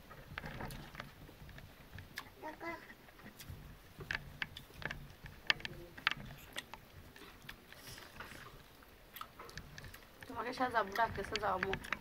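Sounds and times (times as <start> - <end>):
mouths chewing: 0.0 - 12.0.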